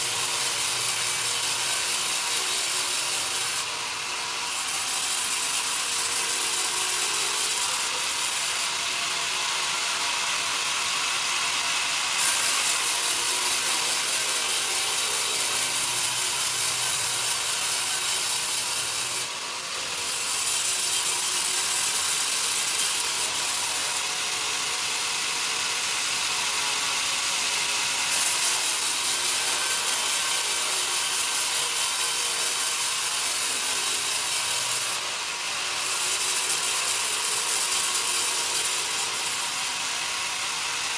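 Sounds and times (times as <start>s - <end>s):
band saw cutting wood: 0.0s - 40.9s.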